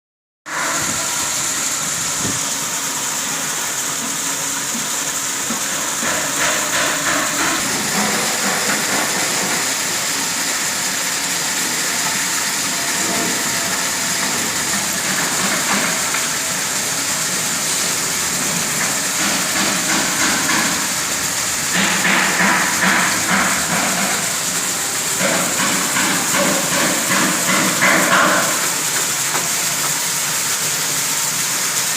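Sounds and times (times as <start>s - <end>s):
water fountain splashing: 0.5s - 31.9s.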